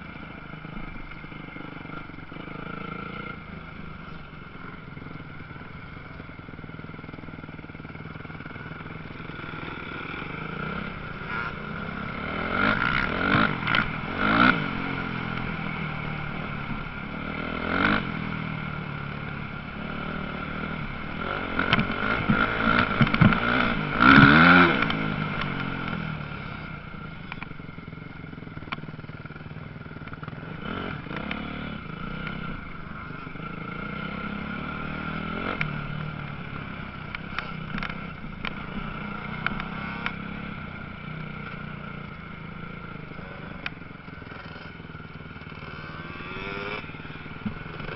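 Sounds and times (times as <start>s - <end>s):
constant engine drone: 0.0s - 47.9s
dirt bike engines revving: 0.0s - 47.9s.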